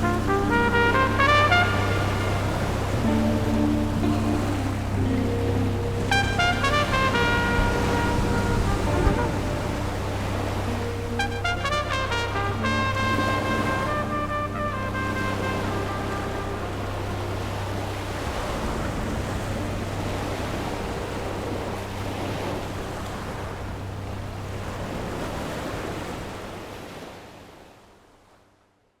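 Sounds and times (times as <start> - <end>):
surf breaking on a beach: 0.0 - 28.4.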